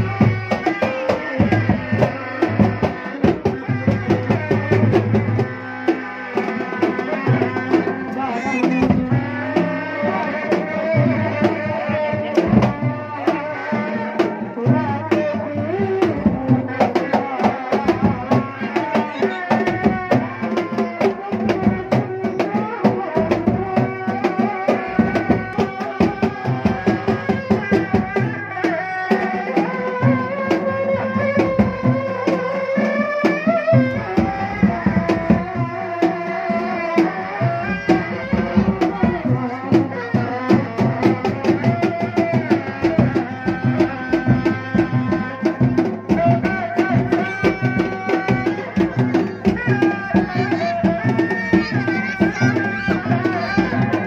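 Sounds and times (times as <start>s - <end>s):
drums beaten in fast rhythm: 0.0s - 54.0s.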